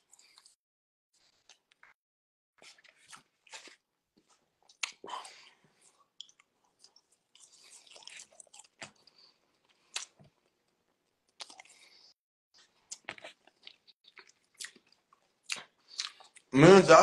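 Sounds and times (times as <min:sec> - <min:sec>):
person chewing food: 0:00.0 - 0:00.6, 0:02.6 - 0:16.5.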